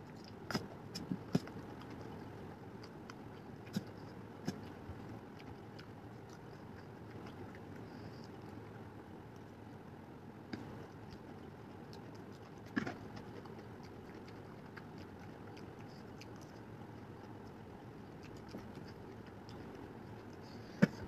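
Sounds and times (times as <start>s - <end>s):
person chewing noodles: 0.0s - 9.6s, 10.6s - 21.0s.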